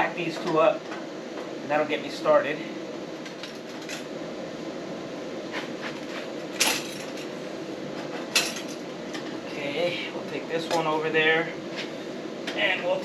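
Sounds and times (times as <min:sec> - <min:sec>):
shop noise hum: 0:00.0 - 0:13.0.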